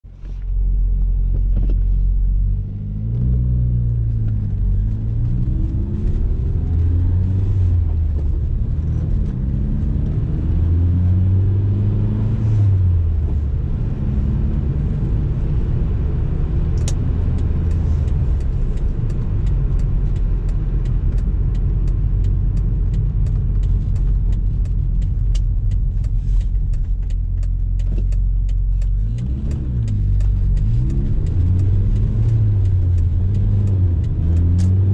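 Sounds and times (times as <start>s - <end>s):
car engine from inside cabin: 0.1s - 34.9s.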